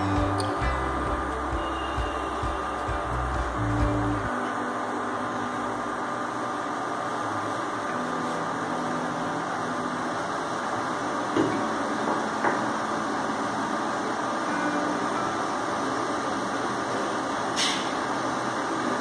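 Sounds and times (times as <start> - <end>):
induction cooktop humming: 0.0 - 19.0.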